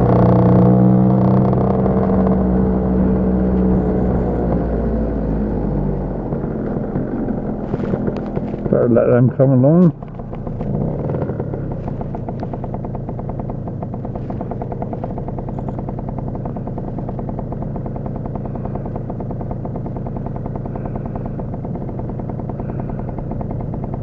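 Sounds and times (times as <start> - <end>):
scooter engine running: 0.0 - 24.0.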